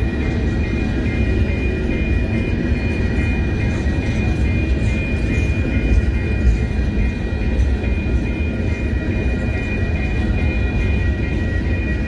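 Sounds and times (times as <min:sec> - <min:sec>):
freight train wheels rumbling on rail: 0:00.0 - 0:12.0
steady high-pitched tone: 0:00.0 - 0:12.0.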